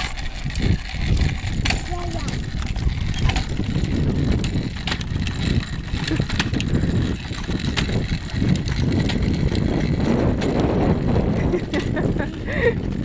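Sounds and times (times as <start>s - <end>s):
clicks and rattles: 0.0s - 13.0s
plastic wheels rolling on concrete: 0.0s - 13.0s.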